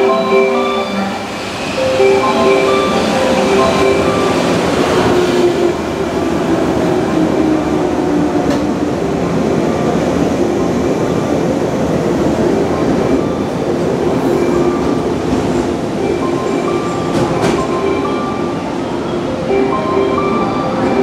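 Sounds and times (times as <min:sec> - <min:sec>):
electric train running past: 0:00.0 - 0:21.0.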